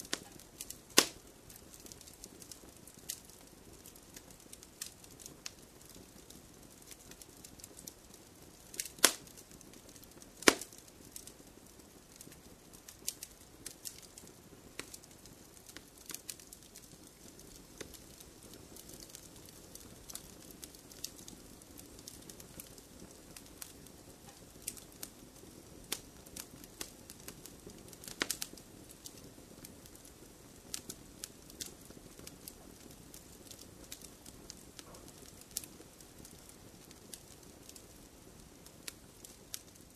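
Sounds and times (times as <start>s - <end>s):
fire crackles and pops: 0.0s - 39.9s
low rushing of flames: 0.0s - 39.9s.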